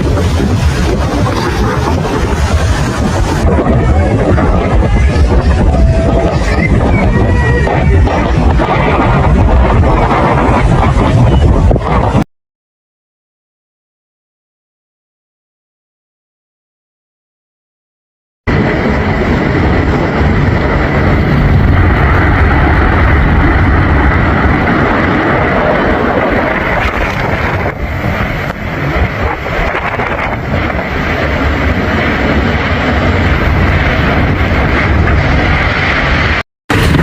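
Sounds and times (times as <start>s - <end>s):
wind buffeting microphone: 0.0s - 12.3s, 18.5s - 37.0s.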